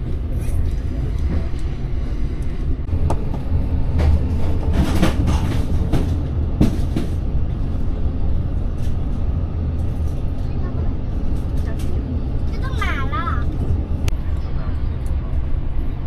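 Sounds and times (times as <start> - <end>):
train carriage rumble: 0.0 - 16.0.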